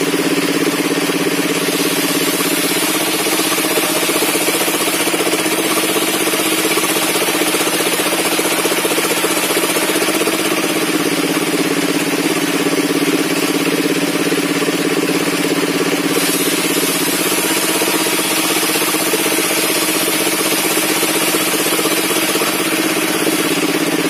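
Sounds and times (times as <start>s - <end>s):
circular saw running: 0.0s - 24.0s.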